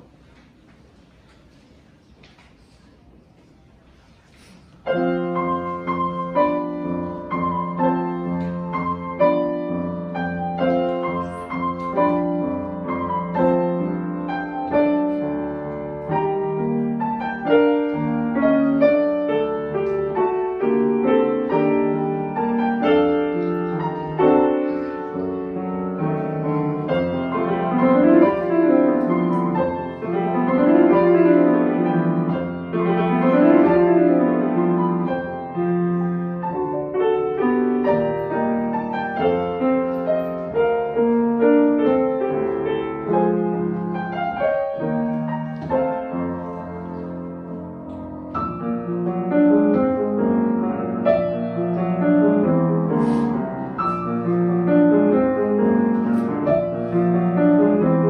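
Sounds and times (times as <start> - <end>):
grand piano chords and melody: 4.7 - 58.0.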